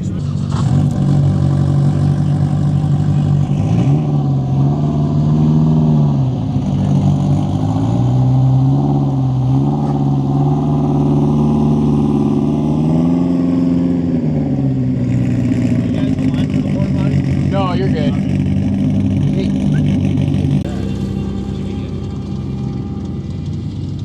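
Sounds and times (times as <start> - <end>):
vehicle engine revving: 0.0 - 24.0.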